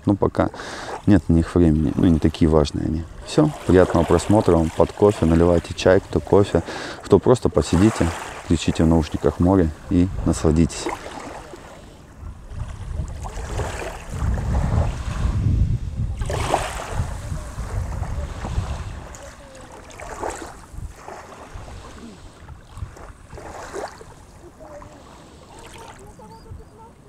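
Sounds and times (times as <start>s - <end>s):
small waves lapping on beach: 0.3s - 27.0s
wind rumbling on microphone: 1.0s - 6.7s, 7.8s - 27.0s.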